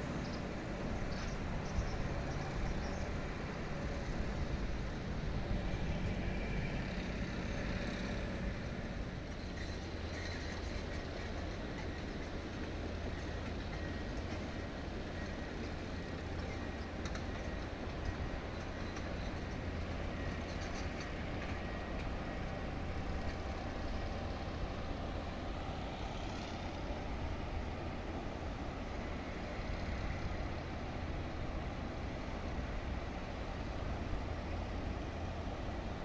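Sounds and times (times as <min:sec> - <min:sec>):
machinery hum and rumble: 0:00.0 - 0:36.0
outdoor noise: 0:00.0 - 0:36.0.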